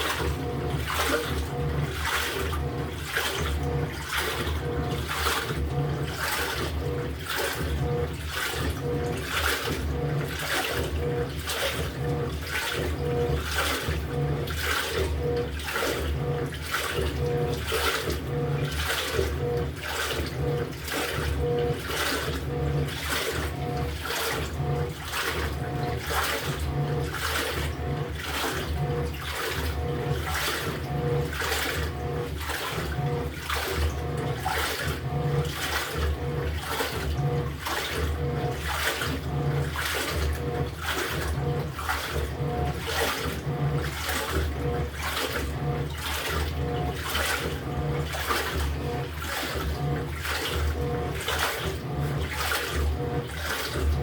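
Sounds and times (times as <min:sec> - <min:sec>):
faint motor hum: 0:00.0 - 0:54.0
water sloshing in washing machine: 0:00.0 - 0:54.0.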